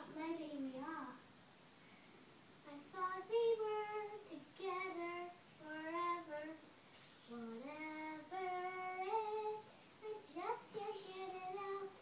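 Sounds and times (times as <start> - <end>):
girl singing: 0.0 - 1.3, 2.6 - 12.0.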